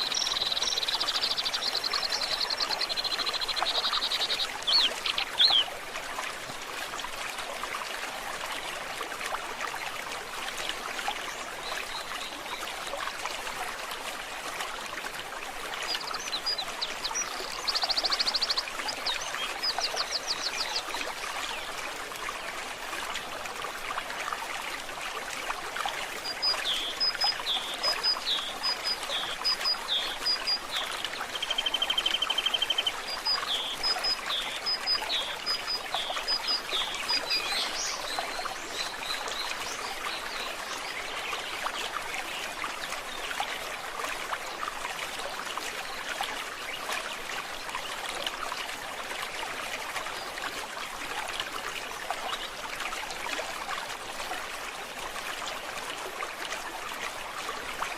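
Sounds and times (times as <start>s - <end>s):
stream trickling and gurgling: 0.0s - 57.9s.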